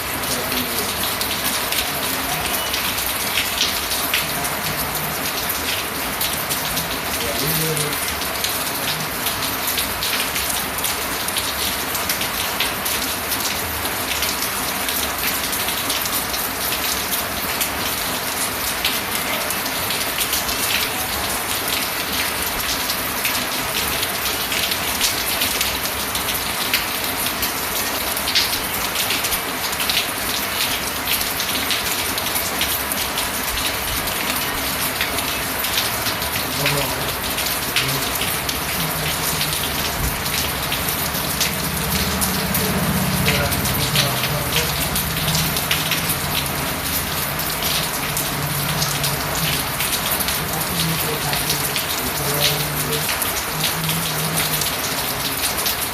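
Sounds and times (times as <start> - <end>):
rain falling: 0.0 - 55.9
raindrops ticking: 0.0 - 55.9.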